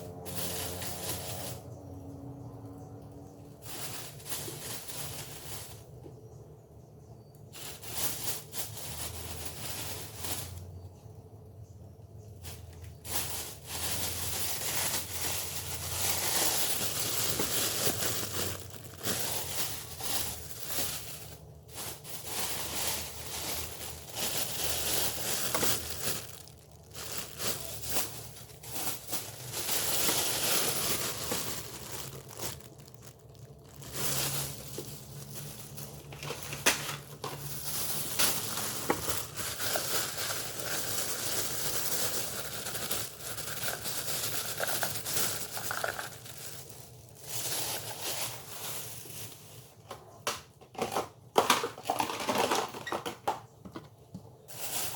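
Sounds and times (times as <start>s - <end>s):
plastic packaging crinkling: 0.0s - 6.0s, 7.5s - 11.0s, 12.4s - 49.8s, 50.8s - 53.3s, 54.5s - 54.9s.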